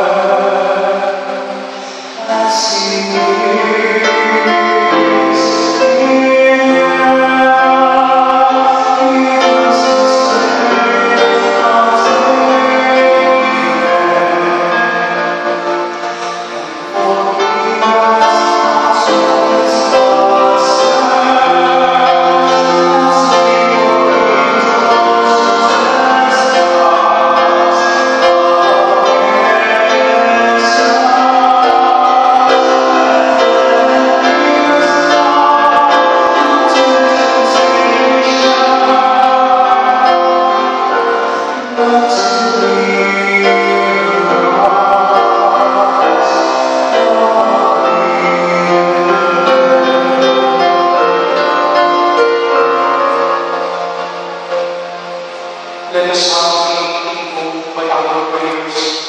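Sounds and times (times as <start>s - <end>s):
piano accompaniment: 0.0s - 59.0s
vocal trio singing a church song: 0.0s - 59.0s.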